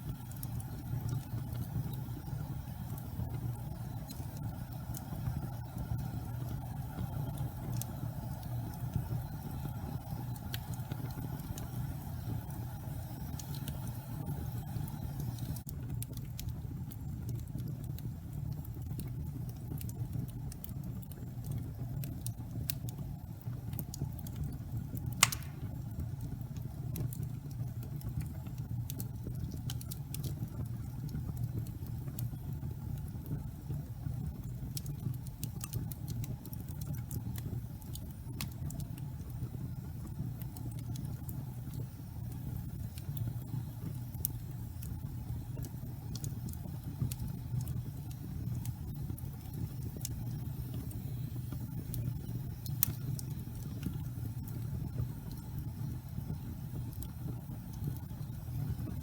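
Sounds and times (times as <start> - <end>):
fire crackles: 0.0 - 59.0
fire popping: 0.0 - 59.0
low rumble of fire flames: 0.0 - 59.0.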